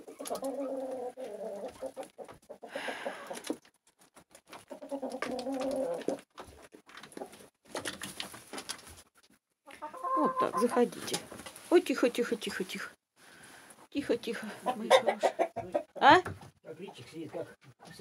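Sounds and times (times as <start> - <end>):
poultry clucking: 0.0 - 8.2, 9.2 - 12.8, 14.0 - 17.8.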